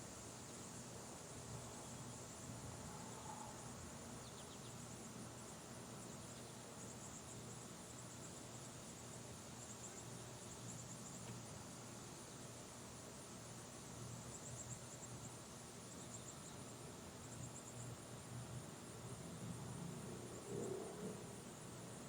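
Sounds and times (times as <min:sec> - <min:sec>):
insects chirping: 0:00.1 - 0:22.0.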